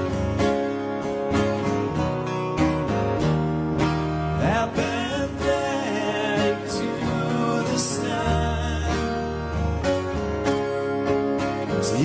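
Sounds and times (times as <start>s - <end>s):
acoustic guitars strumming: 0.0s - 12.0s.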